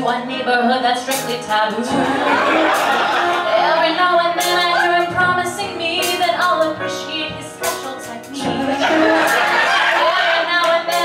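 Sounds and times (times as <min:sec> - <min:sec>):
woman singing into a microphone: 0:00.0 - 0:11.0
sustained instrumental backing: 0:01.1 - 0:11.0.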